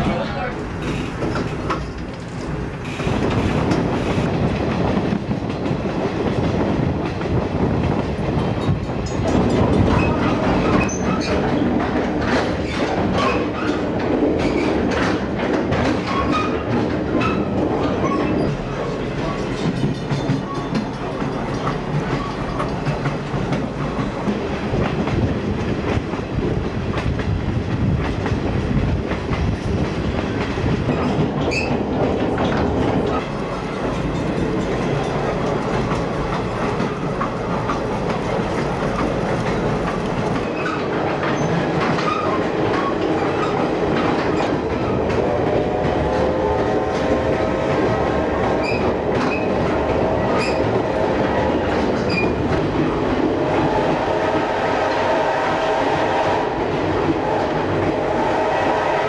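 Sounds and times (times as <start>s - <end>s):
train cars rolling on rails: 0.0s - 59.0s
wheels clicking on track: 0.1s - 58.0s.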